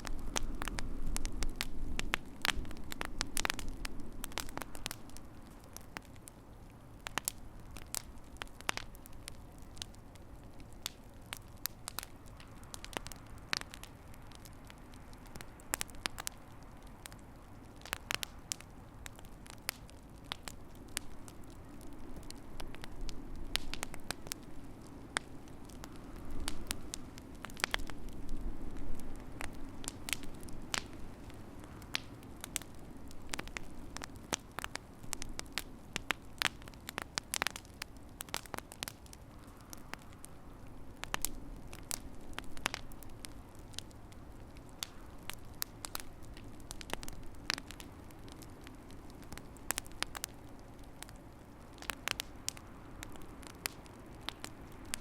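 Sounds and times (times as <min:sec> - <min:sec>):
low rumble of burning fire: 0:00.0 - 0:55.0
wood fire crackling: 0:00.0 - 0:55.0.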